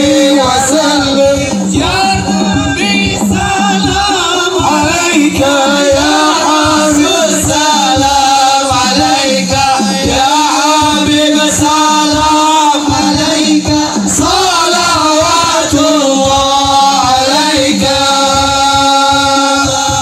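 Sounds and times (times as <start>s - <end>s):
man singing devotional song: 0.0s - 20.0s
steady drumbeat: 0.0s - 20.0s.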